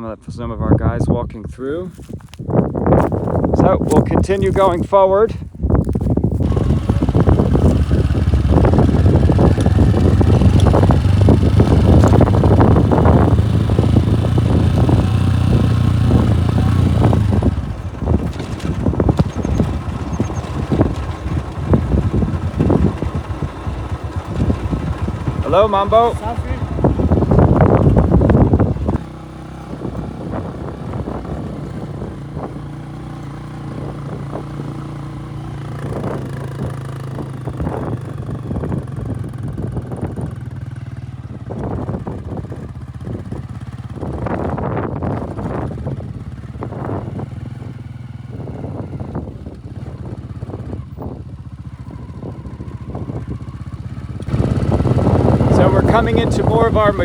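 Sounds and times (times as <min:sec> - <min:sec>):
motorcycle engine running: 0:01.9 - 0:57.0.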